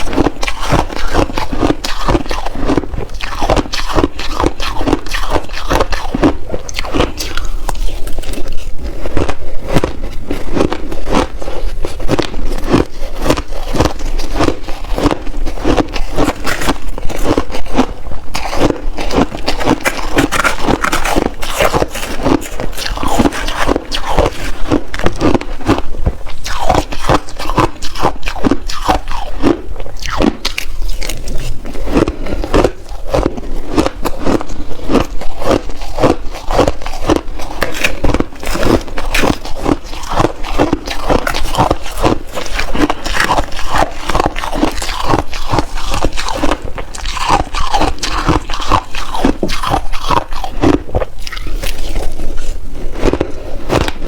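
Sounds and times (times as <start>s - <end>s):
shaved ice crunching when chewed: 0.0s - 54.0s.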